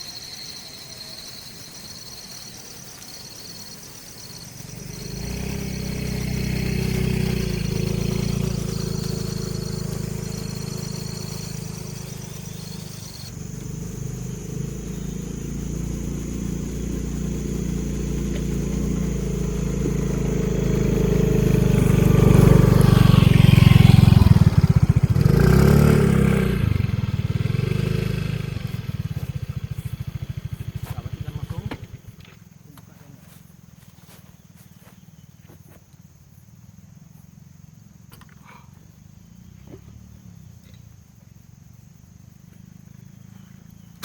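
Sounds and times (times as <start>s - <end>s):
vehicle engine running: 0.4s - 44.0s.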